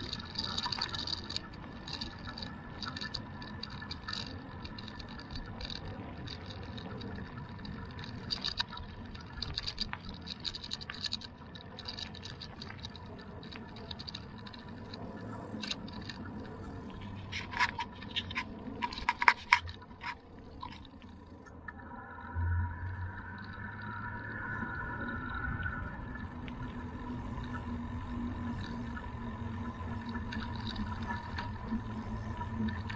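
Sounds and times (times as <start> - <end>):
bicycle clicks and rattles: 0.0 - 21.6, 24.6 - 32.9
bicycle tyres rolling on road: 0.0 - 32.9.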